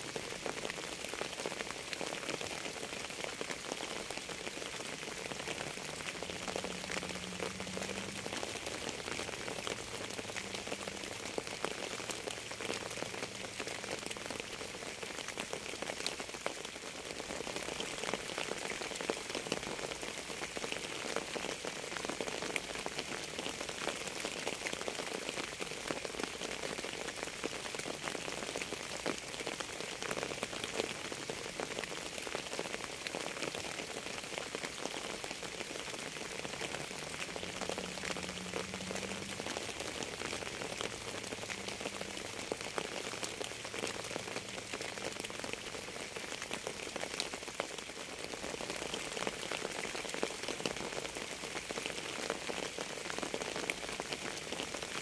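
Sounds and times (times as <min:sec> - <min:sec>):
raindrops striking a surface: 0:00.0 - 0:55.0
steady rain: 0:00.0 - 0:55.0.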